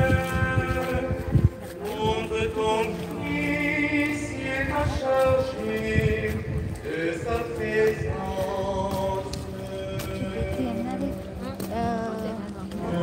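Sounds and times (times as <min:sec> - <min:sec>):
person singing slow chant: 0:00.0 - 0:13.0.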